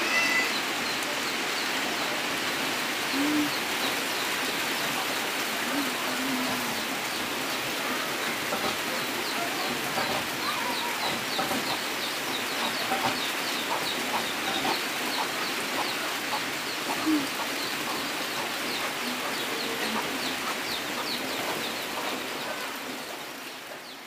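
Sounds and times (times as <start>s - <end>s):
steady rain: 0.0s - 24.0s
small birds chirping: 3.0s - 24.0s
chickens clucking: 3.1s - 24.0s.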